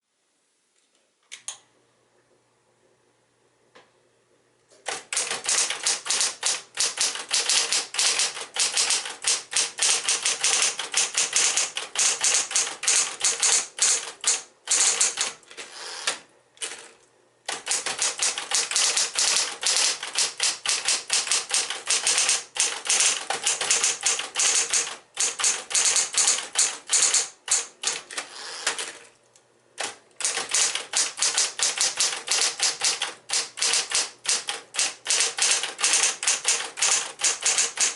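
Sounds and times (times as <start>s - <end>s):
electric typewriter typing: 4.8s - 16.9s, 17.5s - 29.1s, 29.8s - 37.9s.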